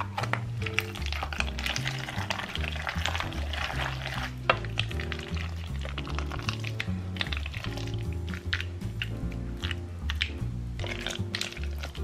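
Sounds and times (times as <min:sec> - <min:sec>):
background music with bass line: 0:00.0 - 0:12.0
pasta stirred in saucepan: 0:00.0 - 0:12.0.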